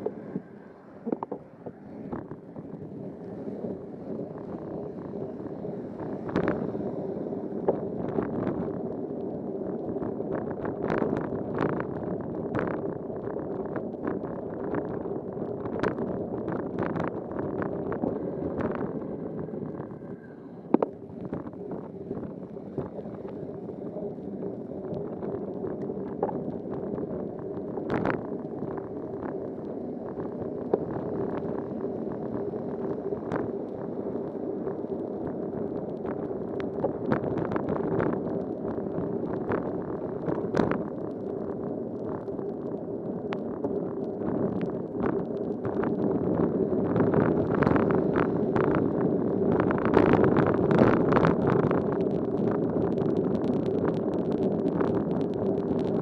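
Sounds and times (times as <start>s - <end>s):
low hum: 0.0s - 56.0s
wind and wet tyre rush: 0.0s - 56.0s.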